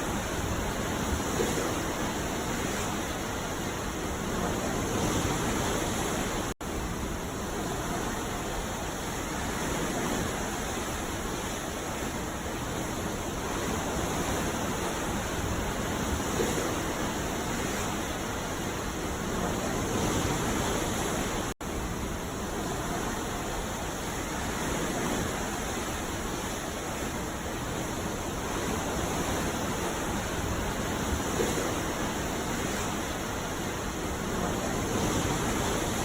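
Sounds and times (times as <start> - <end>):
ocean surf washing on beach: 0.0 - 36.0.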